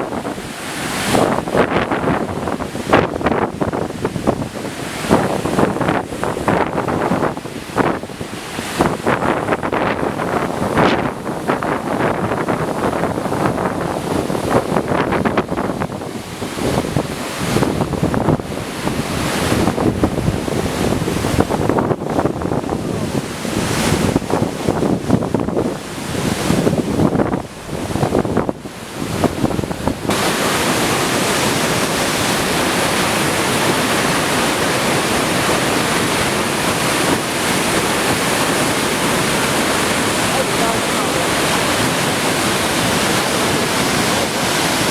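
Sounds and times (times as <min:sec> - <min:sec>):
waterfall rushing: 0:00.0 - 0:44.9
wind buffeting the microphone: 0:00.0 - 0:44.9.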